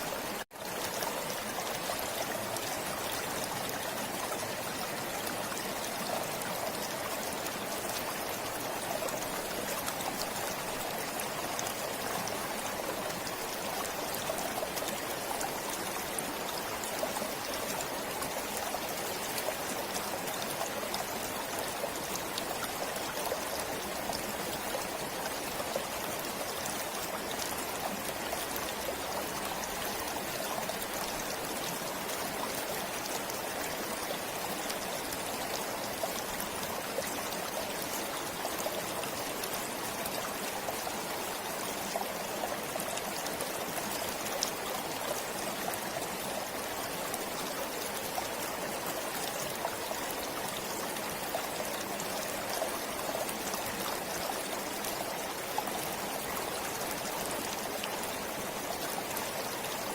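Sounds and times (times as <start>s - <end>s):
stream water splashing over rocks: 0.0s - 59.9s.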